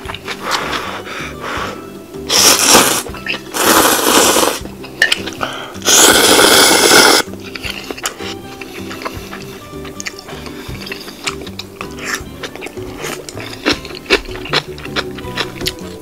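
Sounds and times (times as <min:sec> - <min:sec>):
quiet background music: 0:00.0 - 0:16.0
person slurping noodles: 0:00.2 - 0:14.7.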